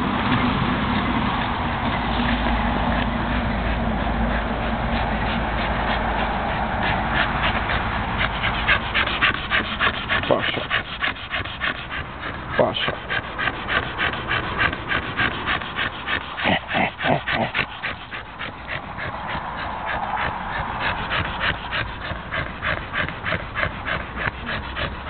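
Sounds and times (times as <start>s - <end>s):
dog panting rapidly: 1.1s - 25.0s
dog whimpering: 4.3s - 25.0s.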